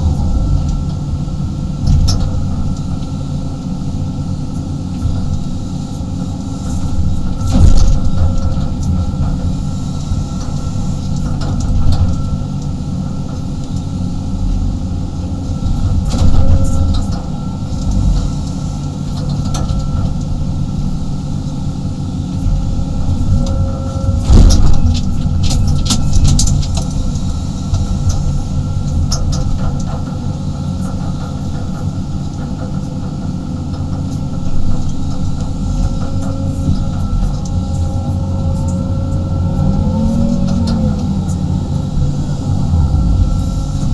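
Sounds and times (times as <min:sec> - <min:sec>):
excavator diesel engine running: 0:00.0 - 0:43.9
steady whine: 0:00.0 - 0:43.9.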